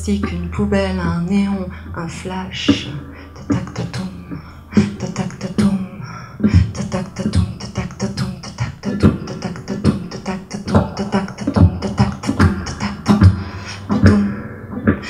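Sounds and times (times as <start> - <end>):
woman chanting into microphone: 0.0 - 14.4.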